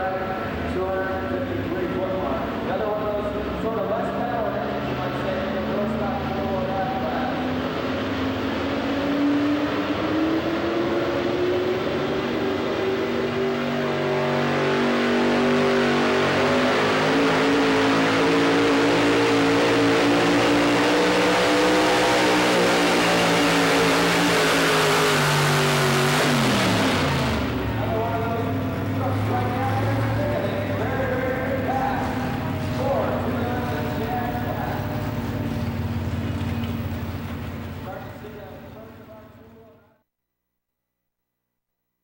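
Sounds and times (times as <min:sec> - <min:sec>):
truck engine at high revs: 0:03.6 - 0:38.8.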